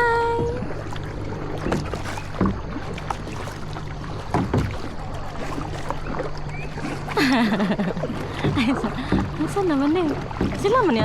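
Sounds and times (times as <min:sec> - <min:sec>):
paddle knocks and splashes: 0:00.0 - 0:11.0
river water: 0:00.0 - 0:11.0.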